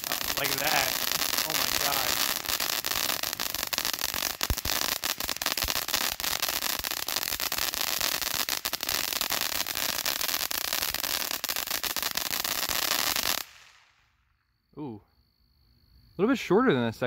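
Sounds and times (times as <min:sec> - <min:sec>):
firework fountain hissing and crackling: 0:00.0 - 0:14.0.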